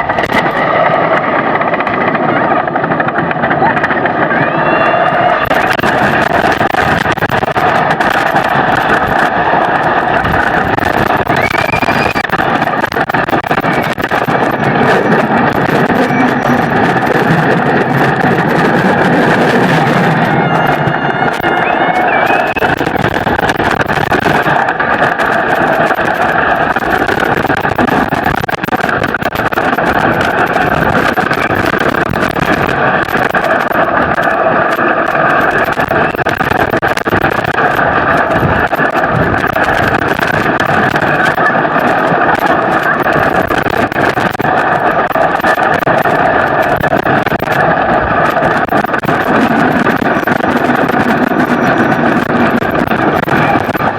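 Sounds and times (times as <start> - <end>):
roller coaster train on track: 0.0 - 53.9.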